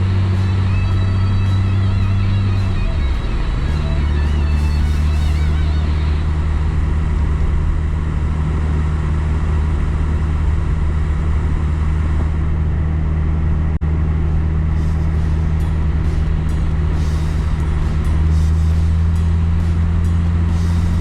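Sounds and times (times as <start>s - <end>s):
car driving on road: 0.0s - 21.0s.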